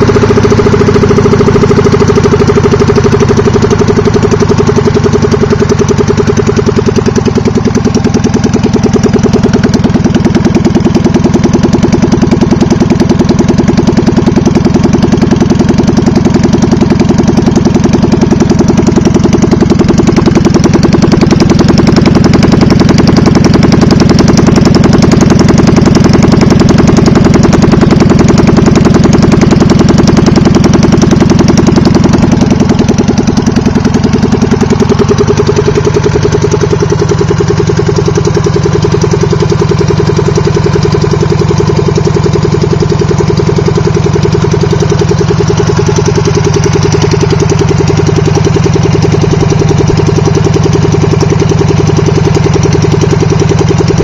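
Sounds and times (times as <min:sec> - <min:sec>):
two-cylinder engine running: 0:00.0 - 0:54.0.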